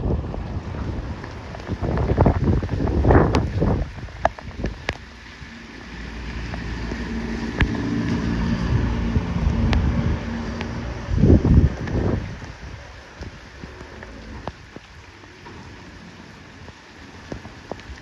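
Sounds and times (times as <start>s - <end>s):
vehicle passing on wet road: 0.0s - 18.0s
wind buffeting microphone: 0.0s - 18.0s.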